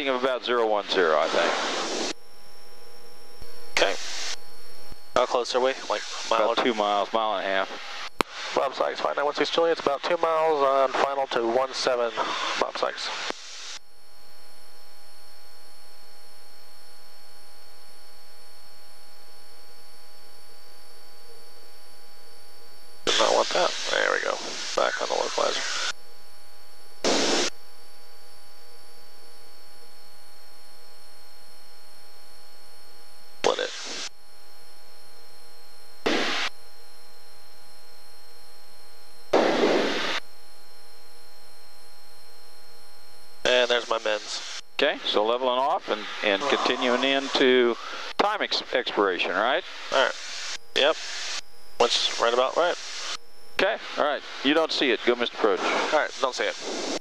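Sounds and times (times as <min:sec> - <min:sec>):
electrical hiss and hum: 0:00.0 - 0:57.0.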